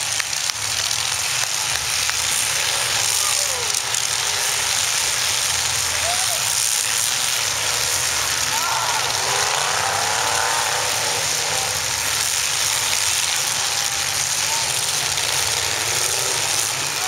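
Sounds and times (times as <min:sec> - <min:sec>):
many car engines roaring: 0:00.0 - 0:17.0.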